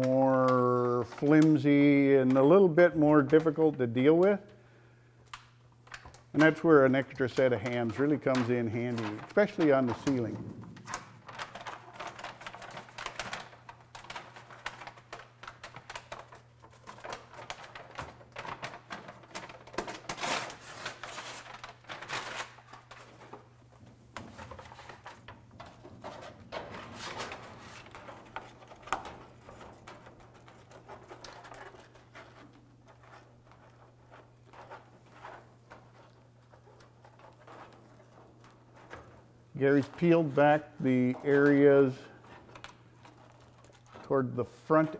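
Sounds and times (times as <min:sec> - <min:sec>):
sheet crinkling and rustling: 0:05.3 - 0:44.9.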